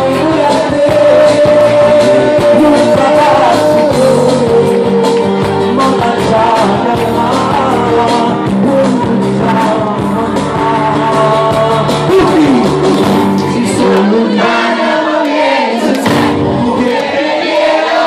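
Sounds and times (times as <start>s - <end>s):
man singing with band: 0.0s - 17.8s.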